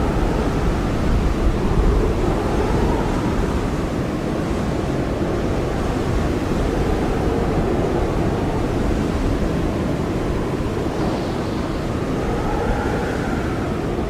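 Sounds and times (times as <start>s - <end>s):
blizzard wind blowing hard: 0.0s - 14.0s.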